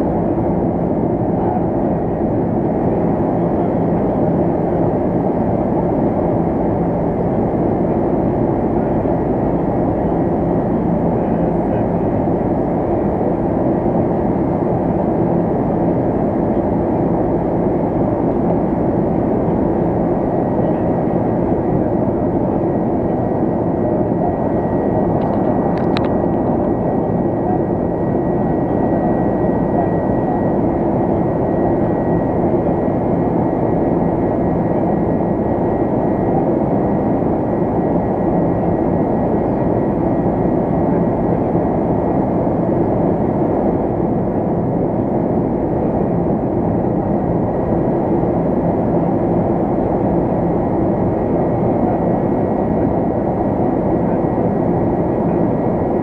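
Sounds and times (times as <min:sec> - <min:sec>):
aircraft cabin engine noise: 0:00.0 - 0:56.0.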